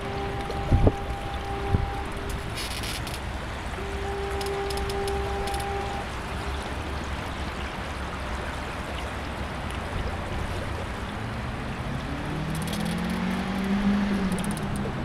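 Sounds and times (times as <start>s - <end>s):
low hum rising in pitch: 0.0s - 7.7s, 10.1s - 15.0s
water splashing along hull: 0.0s - 15.0s.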